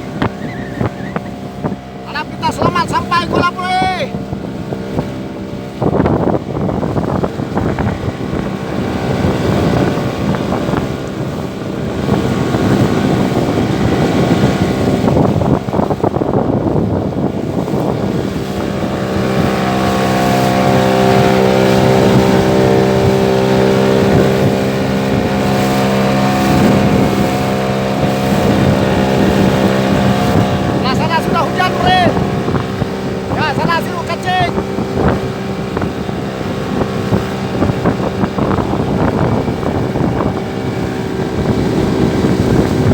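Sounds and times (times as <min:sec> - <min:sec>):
boat engine running: 0:00.0 - 0:42.9
choppy sea: 0:00.0 - 0:42.9
wind buffeting microphone: 0:00.0 - 0:42.9.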